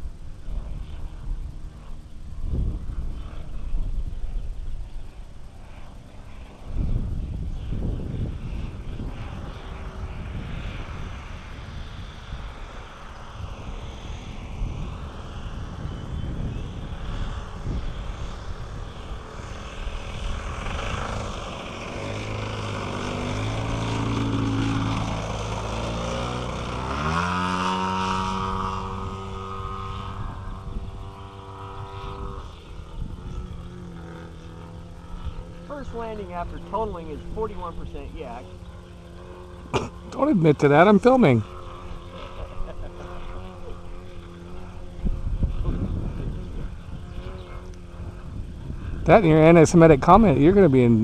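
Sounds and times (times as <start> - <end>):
model plane engine and propeller: 0.0 - 51.0.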